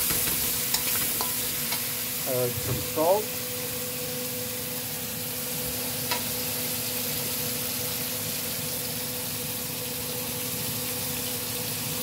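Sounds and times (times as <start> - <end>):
pasta sizzling in a frying pan: 0.0 - 12.0.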